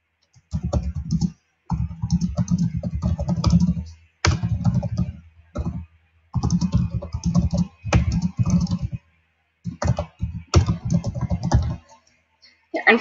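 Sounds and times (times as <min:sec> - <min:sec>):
computer keyboard typing: 0:00.3 - 0:09.0, 0:09.6 - 0:12.1.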